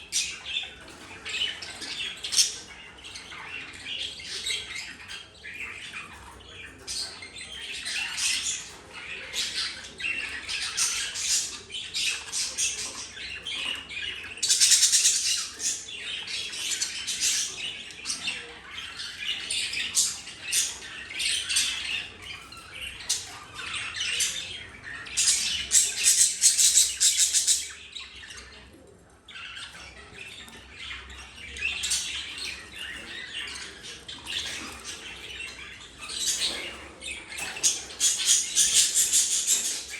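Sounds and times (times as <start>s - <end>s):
budgies chattering and squawking: 0.0s - 39.9s.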